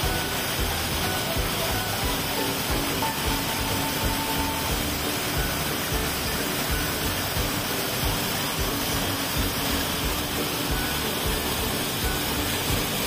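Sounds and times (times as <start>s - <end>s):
small waterfall splashing: 0.0s - 13.0s.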